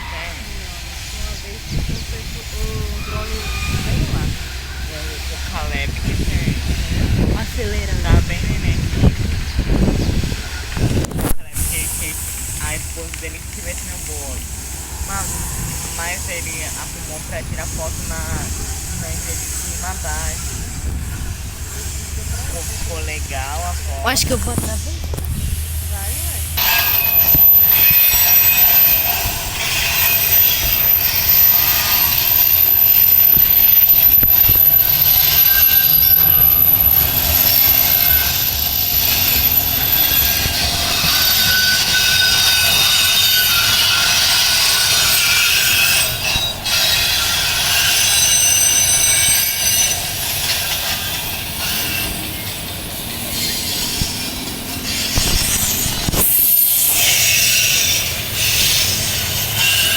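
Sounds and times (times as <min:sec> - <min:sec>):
low rumble of train wagons: 0:00.0 - 0:59.9
train wheels squealing on rails: 0:00.0 - 0:59.9.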